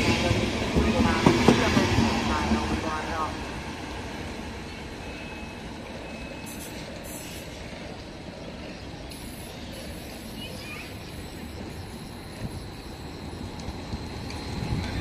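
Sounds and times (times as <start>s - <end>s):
low rumble of trains: 0.0s - 15.0s.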